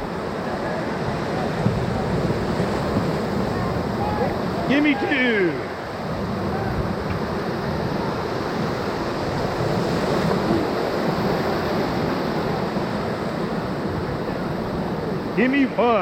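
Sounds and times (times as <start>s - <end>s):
wind on microphone: 0.0s - 15.3s
whitewater rapids rushing: 0.0s - 16.0s.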